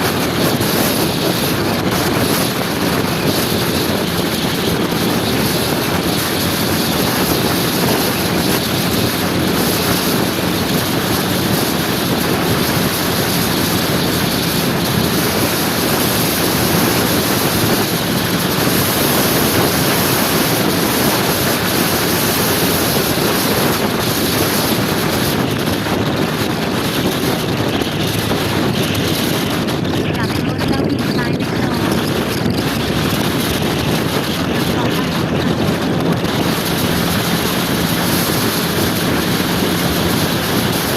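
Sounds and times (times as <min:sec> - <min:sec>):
motor scooter engine droning: 0:00.0 - 0:40.9
road noise: 0:00.0 - 0:40.9
wind on microphone: 0:00.0 - 0:40.9.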